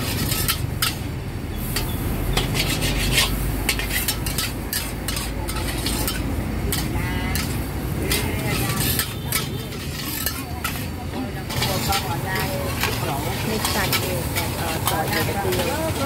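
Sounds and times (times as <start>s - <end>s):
food sizzling: 0.0s - 16.0s
metal spatula scraping a wok: 0.0s - 16.0s.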